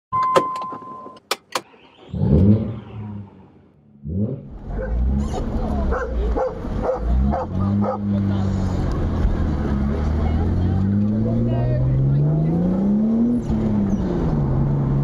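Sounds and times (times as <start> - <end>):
car engine starting and revving: 1.5 - 15.0.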